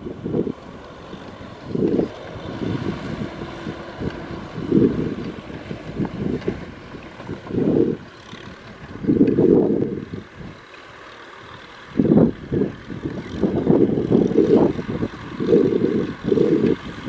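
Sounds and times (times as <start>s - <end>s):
tractor engine surging: 0.0s - 17.0s.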